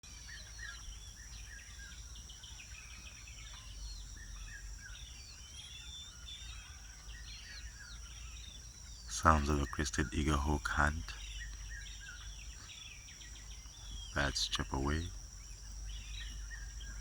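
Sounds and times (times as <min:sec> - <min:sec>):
high insect drone: 0:00.1 - 0:17.0
small birds chirping and whistling: 0:00.1 - 0:17.0.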